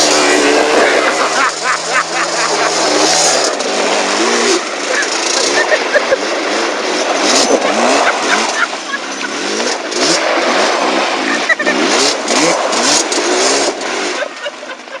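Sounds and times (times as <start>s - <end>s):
quad bike engines revving: 0.0s - 15.0s.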